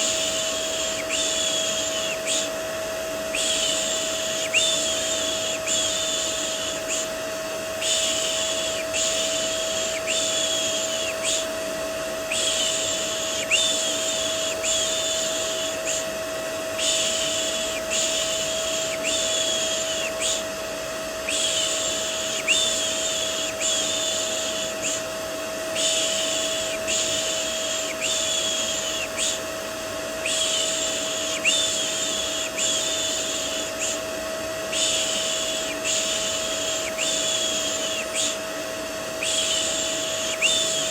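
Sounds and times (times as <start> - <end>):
vacuum cleaner humming: 0.0 - 40.9.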